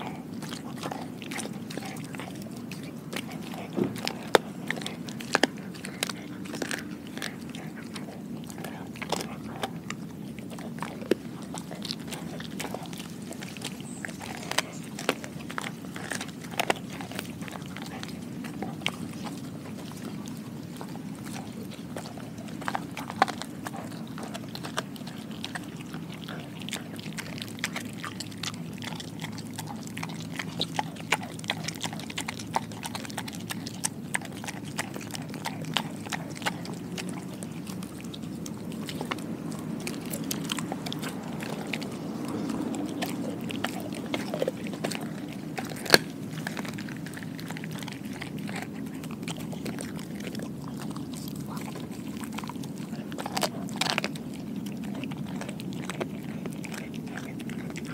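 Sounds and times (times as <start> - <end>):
dog chewing meat: 0.0 - 57.9
steady low hum: 0.0 - 57.9
teeth clicking: 0.0 - 57.9.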